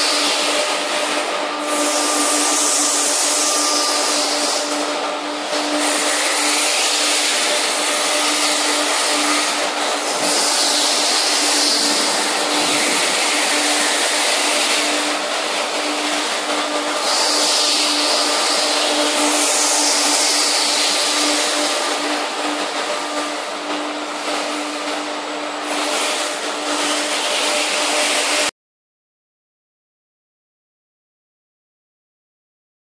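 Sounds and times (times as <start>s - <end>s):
machine hum: 0.0s - 28.4s.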